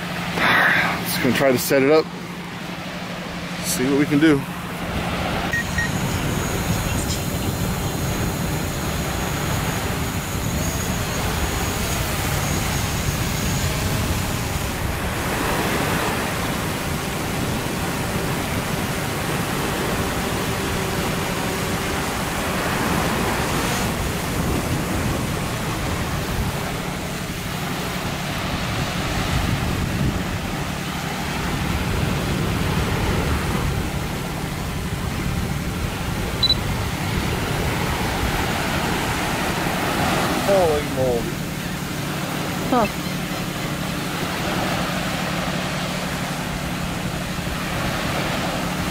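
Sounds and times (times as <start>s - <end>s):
surf washing on beach: 0.0s - 48.9s
wind rumbling on microphone: 0.0s - 48.9s.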